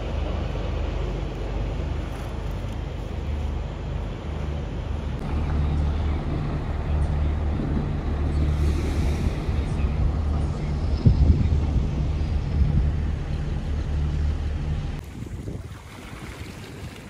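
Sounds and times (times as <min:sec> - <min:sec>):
vehicle rumble and road noise: 0:00.0 - 0:17.0.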